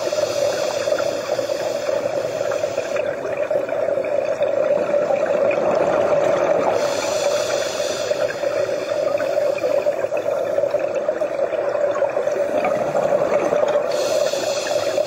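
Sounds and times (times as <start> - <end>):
underwater water noise: 0.0 - 15.0.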